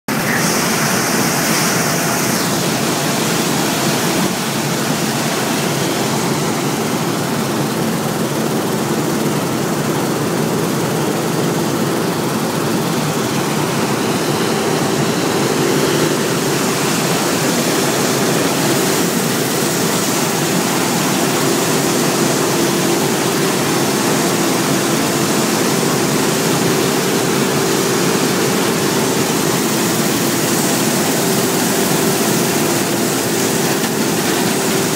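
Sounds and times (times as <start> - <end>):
combine harvester running: 0.1 - 34.9.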